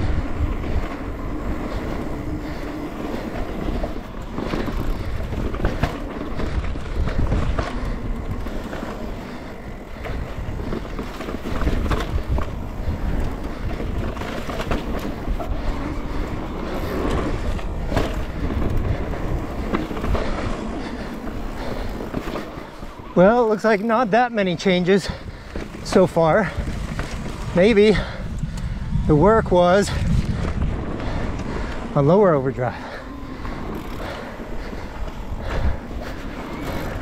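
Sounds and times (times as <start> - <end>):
wind rumble on microphone: 0.0 - 23.7, 24.5 - 37.0
bike rattling over bumps: 0.0 - 37.0.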